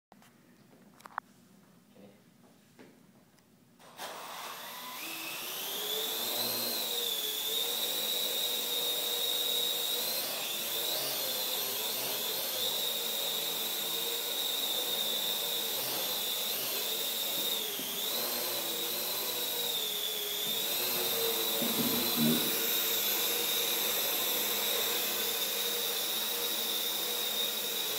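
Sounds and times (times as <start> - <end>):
drone motors whining: 4.1 - 27.9.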